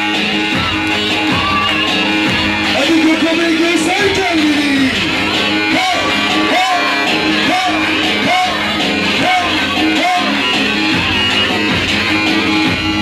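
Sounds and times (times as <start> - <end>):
loud dance music with singing: 0.0 - 13.0.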